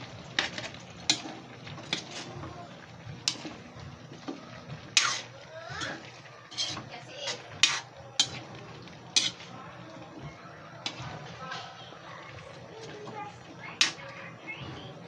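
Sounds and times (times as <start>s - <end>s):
ladle clattering in a wok: 0.0s - 11.8s, 12.8s - 14.2s.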